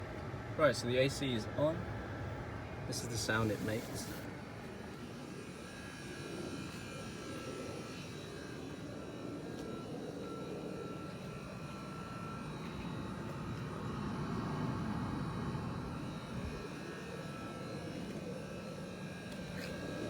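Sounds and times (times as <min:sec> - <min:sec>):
air conditioning buzzing: 0:00.0 - 0:20.0.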